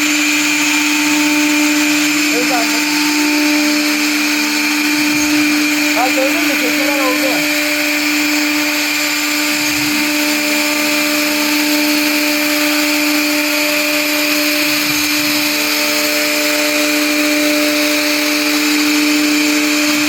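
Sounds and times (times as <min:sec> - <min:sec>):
router spindle whine: 0:00.0 - 0:20.0.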